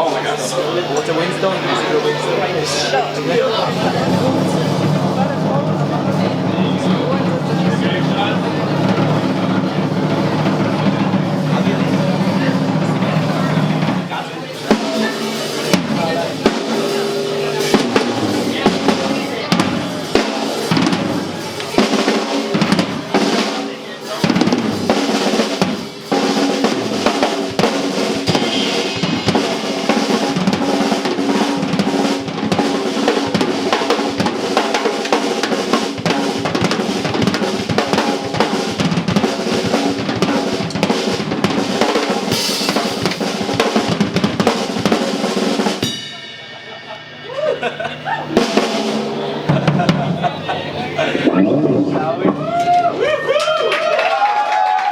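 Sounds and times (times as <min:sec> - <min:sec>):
fast drum kit solo: 0:00.0 - 0:54.9.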